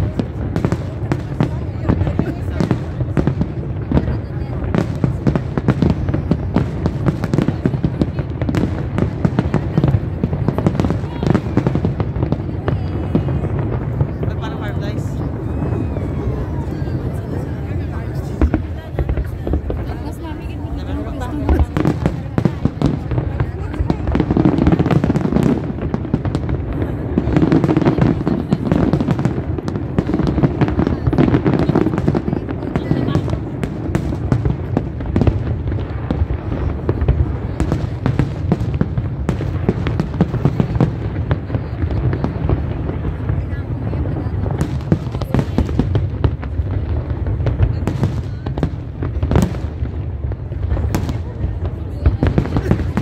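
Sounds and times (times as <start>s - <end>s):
fireworks bursting and crackling: 0.0s - 53.0s
spectators' voices: 0.0s - 53.0s.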